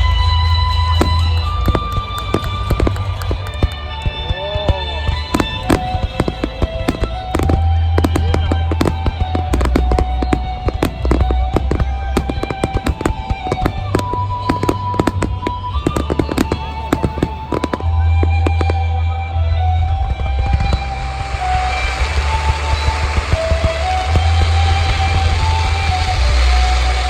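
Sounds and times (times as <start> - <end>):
fireworks bangs and crackles: 0.0 - 27.0
music with deep bass: 0.0 - 27.0.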